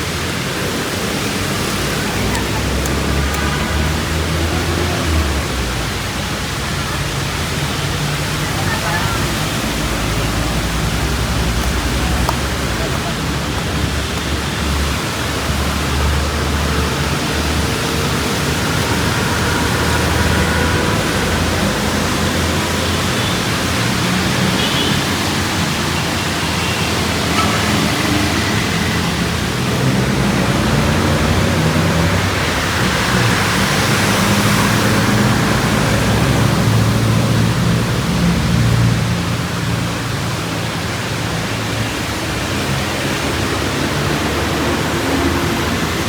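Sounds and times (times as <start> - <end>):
passing road traffic rumble: 0.0 - 46.0.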